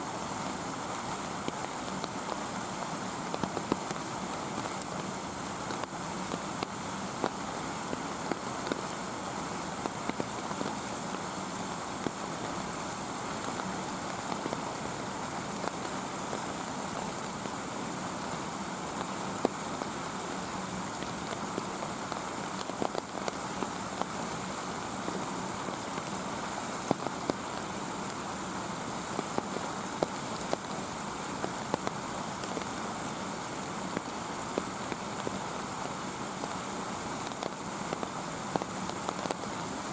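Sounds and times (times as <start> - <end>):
falling rain hiss: 0.0 - 39.9
raindrops ticking on surfaces: 0.0 - 39.9.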